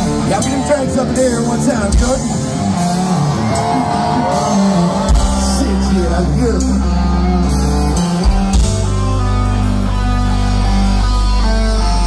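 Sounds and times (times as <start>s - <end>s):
guitar: 0.0s - 12.0s
heavy held bass notes: 0.0s - 12.0s.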